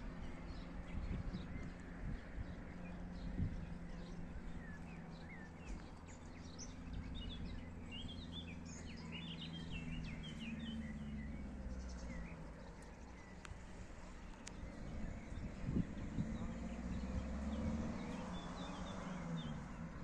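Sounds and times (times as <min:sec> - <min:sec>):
faint outdoor background: 0:00.0 - 0:20.0
small birds chirping: 0:00.0 - 0:20.0.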